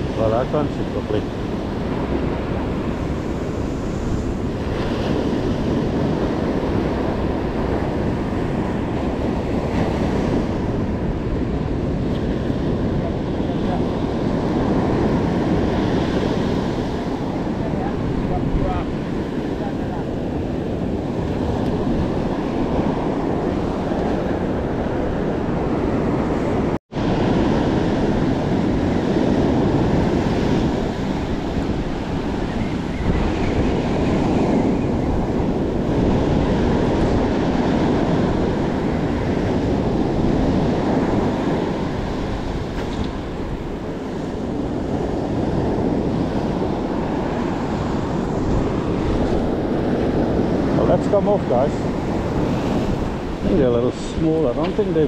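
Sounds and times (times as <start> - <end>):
ocean surf breaking on beach: 0.0 - 55.0
wind buffeting microphone: 0.0 - 55.0.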